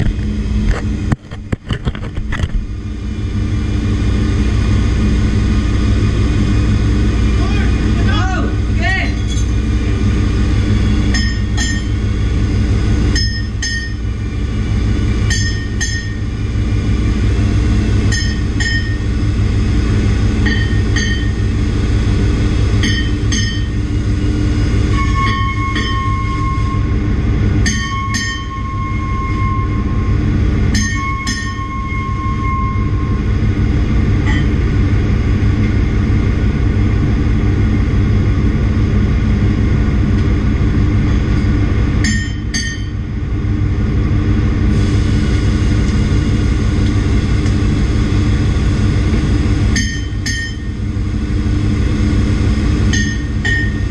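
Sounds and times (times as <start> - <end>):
engine room machinery hum: 0.0 - 53.9.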